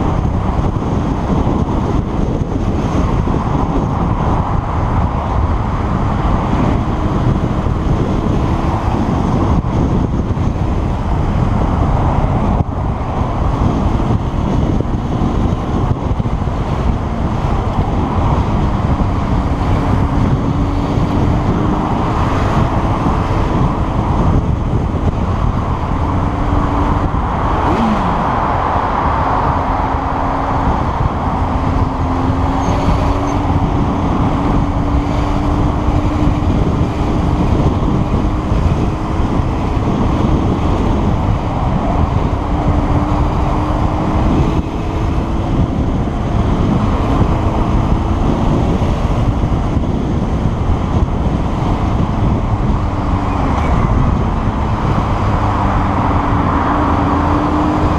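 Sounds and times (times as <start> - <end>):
wind and road rush: 0.0 - 57.9.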